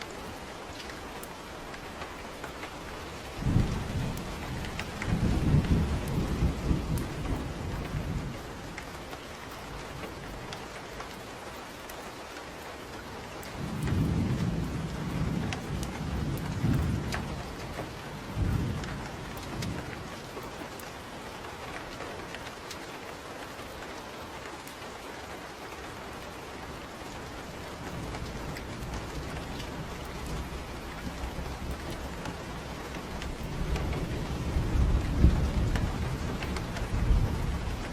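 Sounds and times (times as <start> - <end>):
thunder rumbling: 0.0 - 11.1, 13.3 - 22.4, 26.2 - 37.9
steady rain: 0.0 - 37.9.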